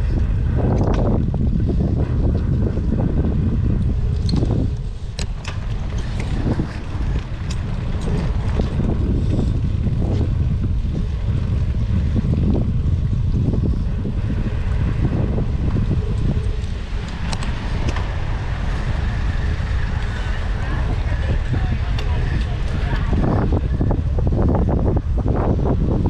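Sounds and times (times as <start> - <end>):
tyres on wet pavement: 0.0 - 24.4
wind noise on microphone: 0.0 - 26.0.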